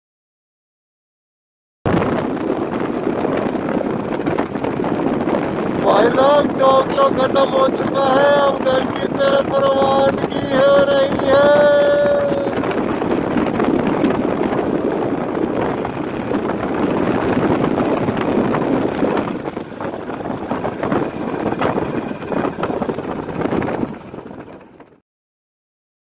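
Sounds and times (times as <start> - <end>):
wind buffeting microphone: 1.9 - 25.0
vehicle moving along road: 2.0 - 25.0.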